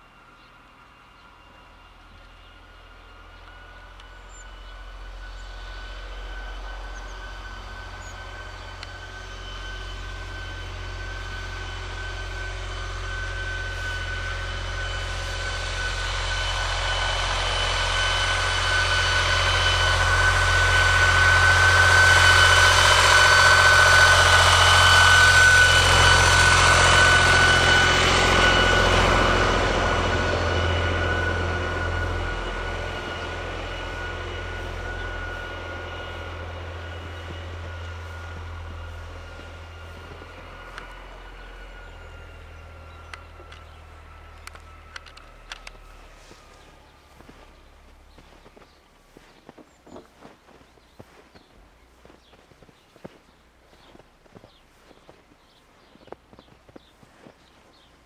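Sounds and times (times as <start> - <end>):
passing vehicle engine whine: 0.0 - 58.0.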